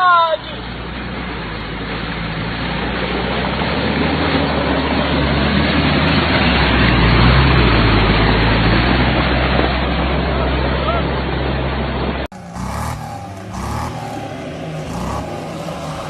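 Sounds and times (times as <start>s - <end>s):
vehicle engine running hard: 0.0s - 16.0s.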